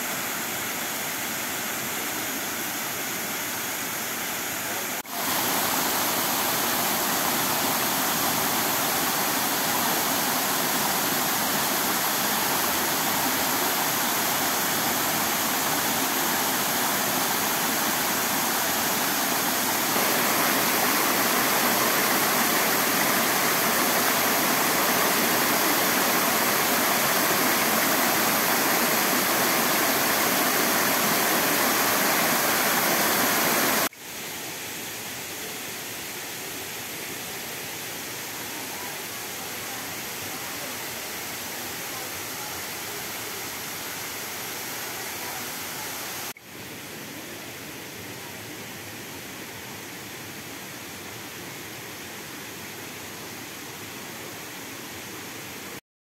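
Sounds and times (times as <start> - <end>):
waterfall rushing: 0.0 - 46.4.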